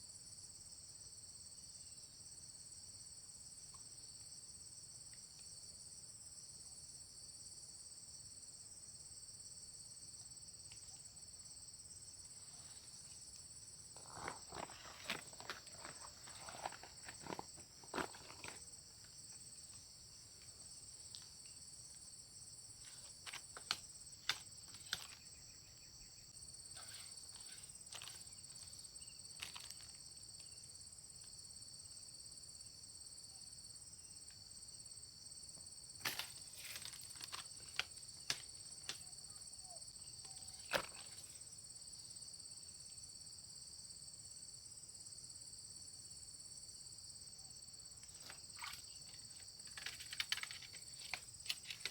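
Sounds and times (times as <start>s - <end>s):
insect chorus: 0.0s - 51.9s.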